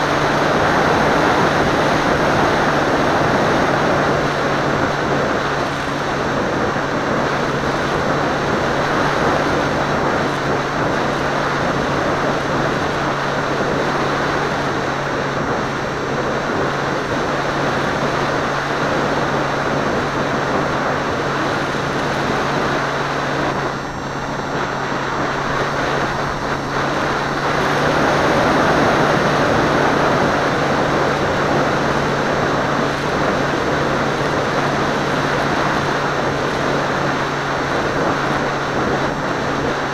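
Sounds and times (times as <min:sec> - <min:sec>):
propeller plane motor hum: 0:00.0 - 0:39.9
wind rushing on microphone: 0:00.0 - 0:39.9.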